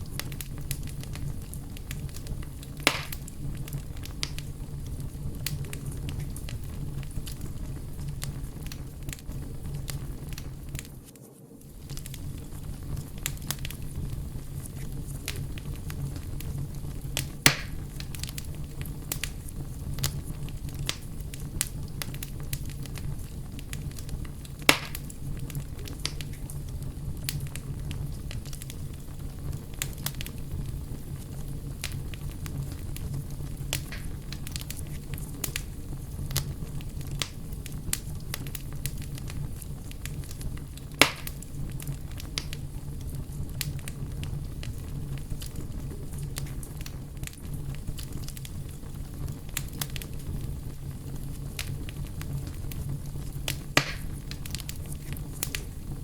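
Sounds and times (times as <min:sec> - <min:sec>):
campfire crackling: 0:00.0 - 0:56.0
loud fire pops: 0:00.0 - 0:56.0.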